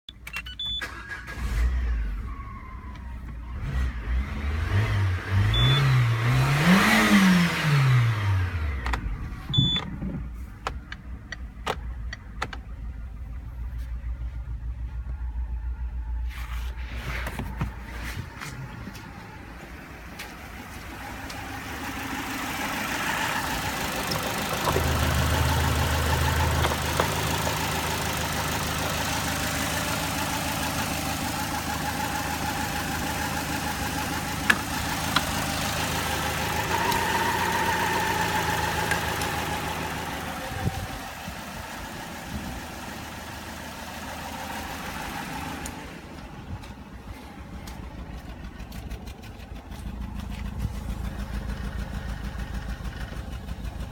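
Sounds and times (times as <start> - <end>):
car engine running: 3.0 - 53.9.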